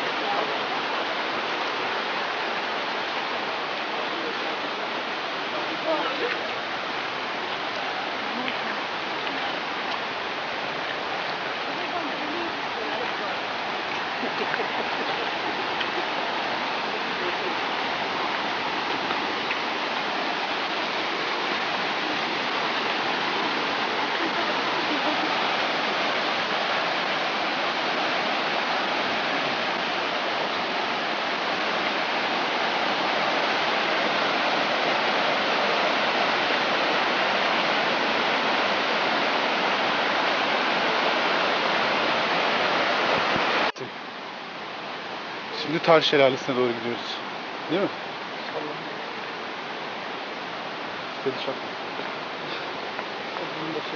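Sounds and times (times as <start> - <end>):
creek water rushing over rocks: 0.0 - 53.9.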